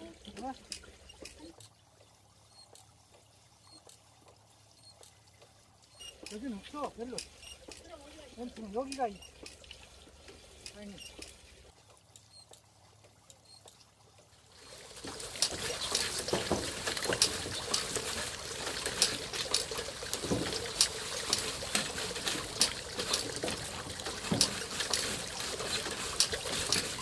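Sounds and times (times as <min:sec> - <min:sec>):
soot rattling down flue pipe: 0:00.0 - 0:27.0.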